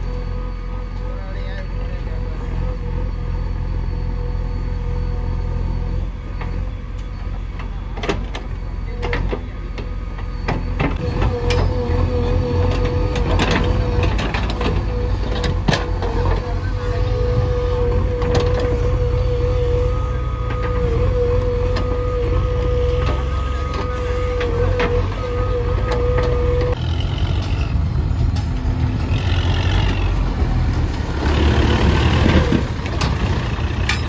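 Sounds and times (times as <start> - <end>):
diesel engine running: 0.0 - 34.0
hydraulics whine: 0.0 - 34.0.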